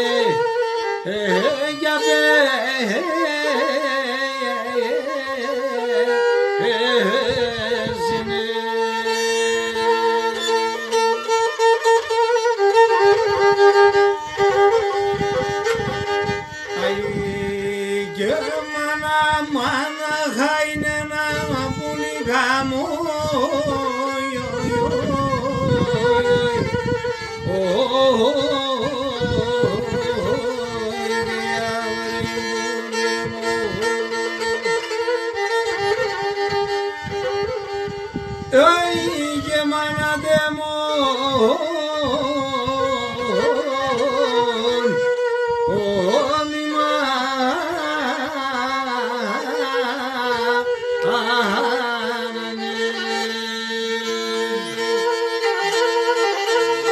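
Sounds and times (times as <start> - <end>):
bowed string melody: 0.0 - 56.9
held drone: 2.9 - 56.9.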